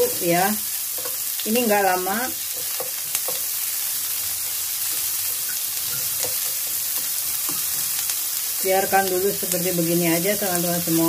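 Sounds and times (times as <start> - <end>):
asparagus sizzling in a frying pan: 0.0 - 11.0.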